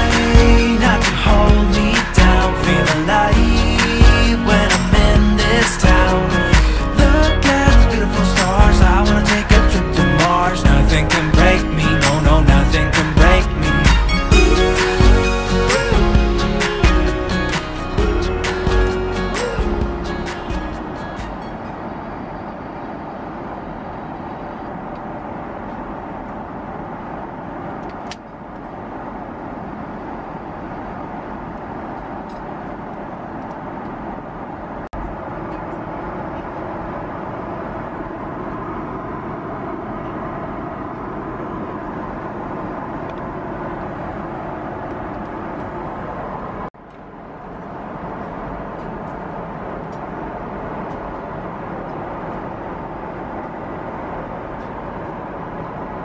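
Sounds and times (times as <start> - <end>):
airliner cabin noise: 0.0 - 56.0.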